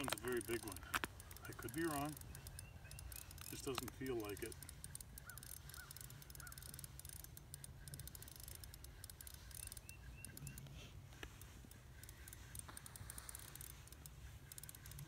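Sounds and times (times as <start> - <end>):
faint ticking: 0.0 - 15.0
faint bird chirps: 1.5 - 15.0.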